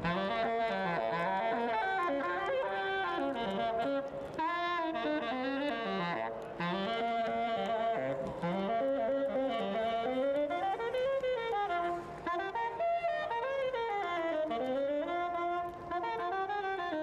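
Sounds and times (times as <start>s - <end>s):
jazz saxophone melody: 0.0s - 17.0s.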